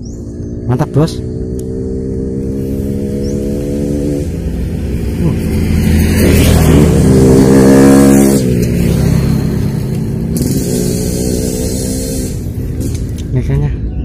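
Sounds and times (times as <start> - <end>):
vehicle passing: 0.0 - 13.9.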